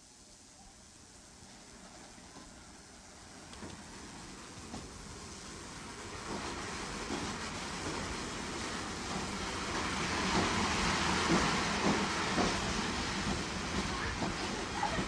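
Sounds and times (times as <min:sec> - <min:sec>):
train wheels clicking over rails: 0:01.9 - 0:15.0.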